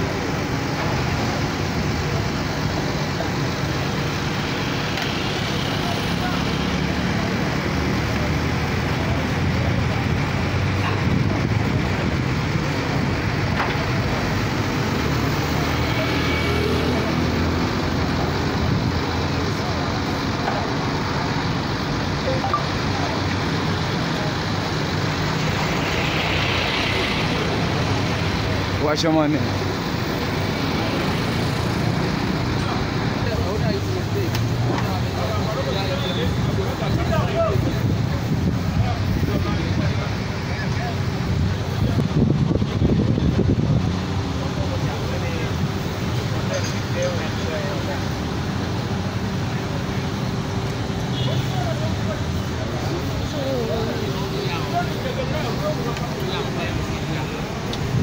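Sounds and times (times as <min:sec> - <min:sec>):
street traffic noise: 0:00.0 - 0:58.0
vehicle engine running: 0:00.0 - 0:58.0.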